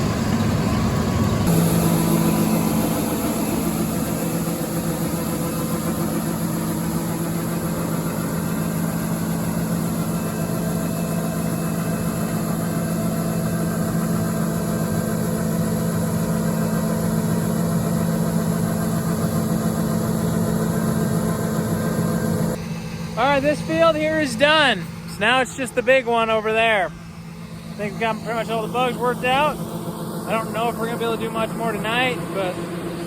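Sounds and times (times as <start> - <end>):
combine harvester droning: 0.0 - 33.0.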